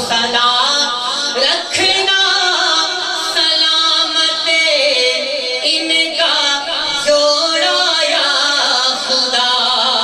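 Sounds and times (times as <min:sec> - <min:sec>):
man singing into a microphone: 0:00.0 - 0:10.0.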